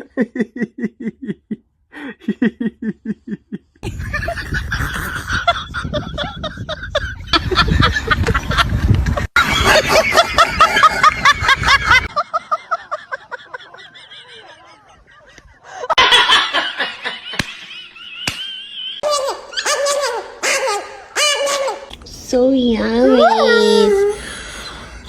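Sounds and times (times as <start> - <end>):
person laughing hard: 0.0 - 8.7, 9.3 - 21.0.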